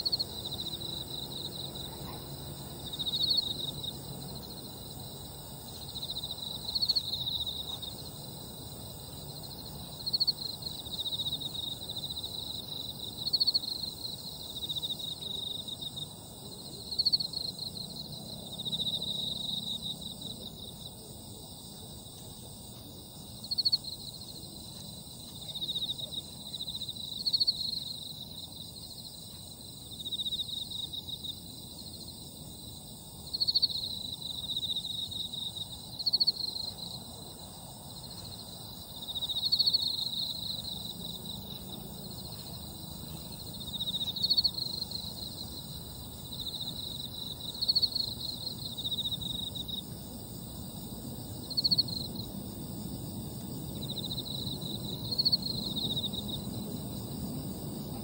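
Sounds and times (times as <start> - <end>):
high-pitched insect chorus: 0.0 - 58.0
insect chirping: 0.0 - 58.0.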